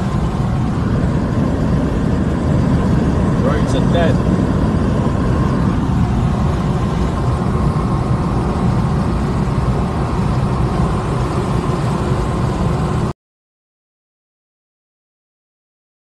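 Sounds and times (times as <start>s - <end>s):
car cabin road and engine noise: 0.0s - 13.2s.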